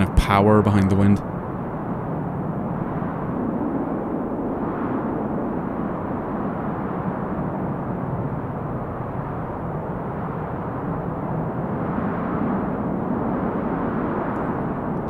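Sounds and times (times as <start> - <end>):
synthesized wind noise: 0.0 - 15.0.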